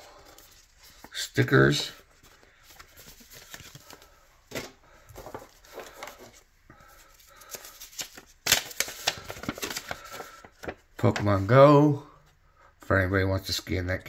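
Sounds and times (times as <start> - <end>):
paper and card rustling: 0.0 - 11.7.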